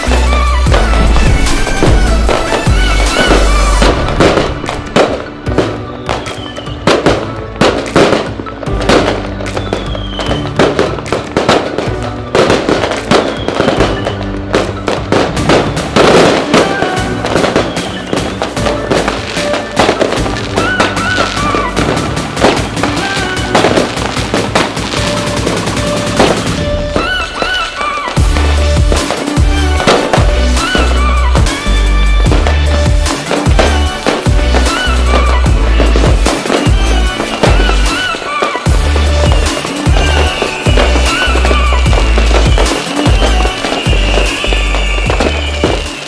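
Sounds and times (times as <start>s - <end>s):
background music: 0.0s - 46.0s
fireworks bangs and crackles: 0.0s - 46.0s.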